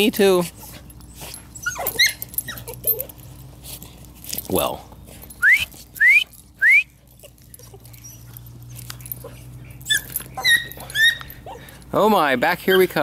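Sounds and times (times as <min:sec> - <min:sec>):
puppies whining: 0:00.3 - 0:04.4, 0:05.0 - 0:13.0
puppies yelping: 0:00.4 - 0:03.6, 0:05.2 - 0:13.0.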